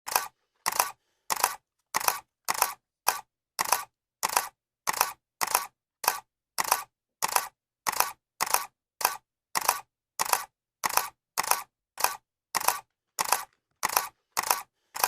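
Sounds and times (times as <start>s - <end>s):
camera shutter clicking: 0.1s - 15.0s.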